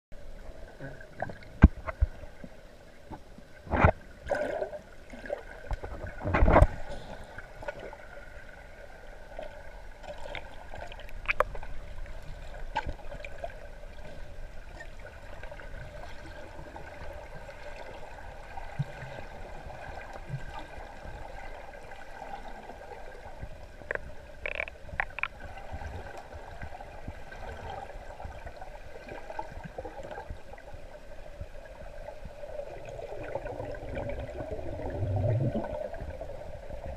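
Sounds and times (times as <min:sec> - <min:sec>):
muffled underwater hum and wash: 0:00.2 - 0:36.9.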